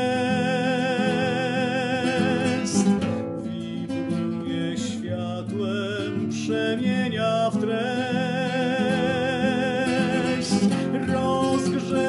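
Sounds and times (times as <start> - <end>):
classical guitar strumming chords: 0.0 - 12.0
man singing with vibrato: 0.0 - 12.0.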